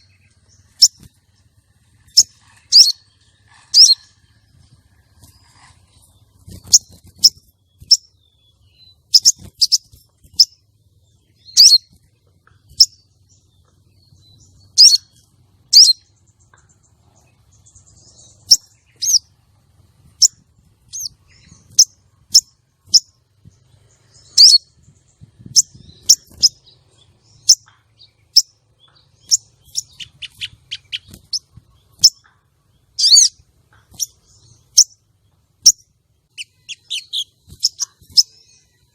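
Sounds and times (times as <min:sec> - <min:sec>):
bird high-pitched chirps: 0:00.0 - 0:19.3, 0:20.0 - 0:38.9.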